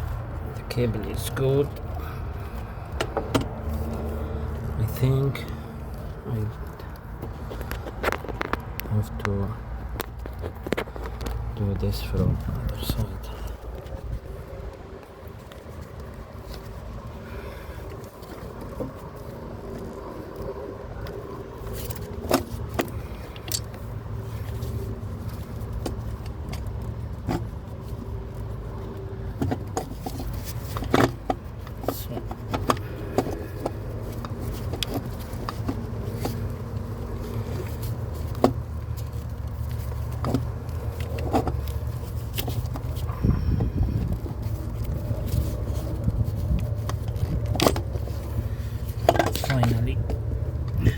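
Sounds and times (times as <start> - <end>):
low background rumble: 0.0 - 50.9.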